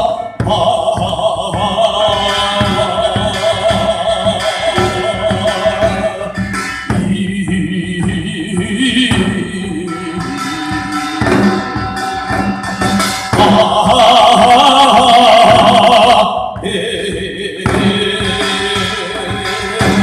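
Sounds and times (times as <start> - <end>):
music with singing and drumming: 0.0 - 20.0.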